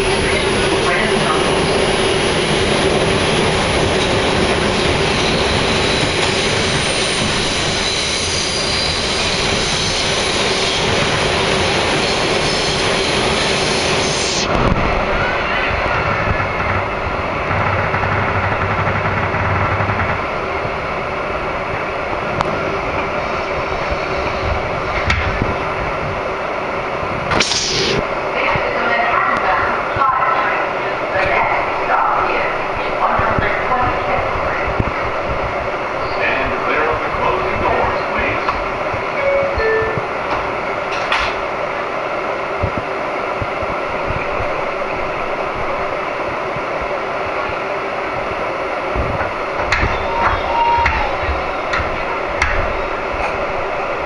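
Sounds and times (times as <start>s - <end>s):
subway train wheels on rail: 0.0s - 54.0s.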